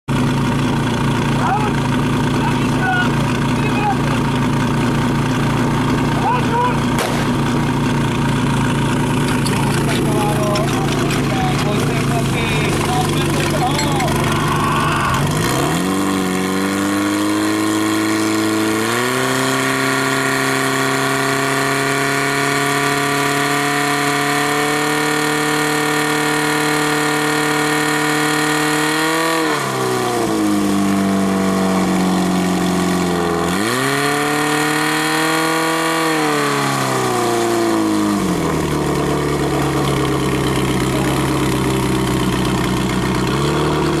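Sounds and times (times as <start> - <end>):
pump engine running: 0.1 - 44.0.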